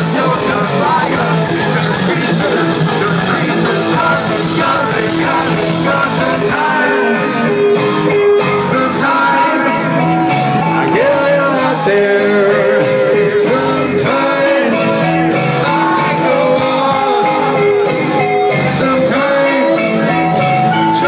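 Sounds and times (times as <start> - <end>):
person singing: 0.0 - 21.0
rock band playing: 0.0 - 21.0.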